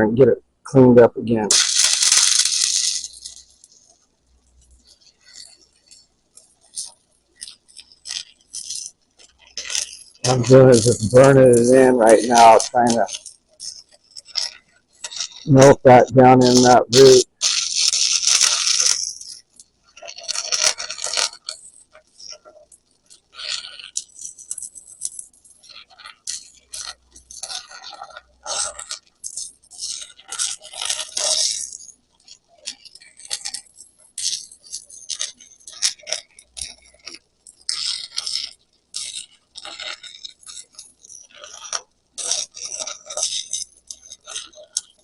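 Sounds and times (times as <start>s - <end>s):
welding arc crackling and sizzling: 0.0s - 45.0s.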